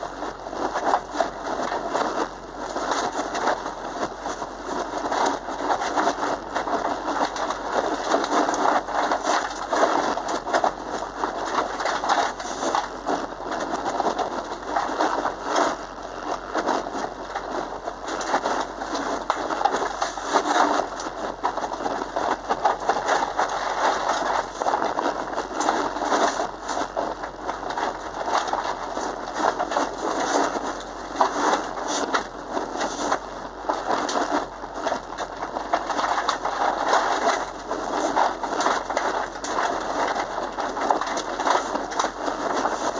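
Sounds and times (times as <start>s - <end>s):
gravel striking car underside: 0.0s - 42.9s.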